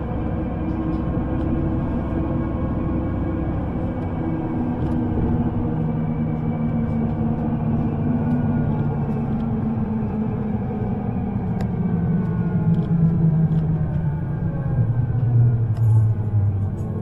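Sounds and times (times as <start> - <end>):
underground train rumbling: 0.0 - 17.0.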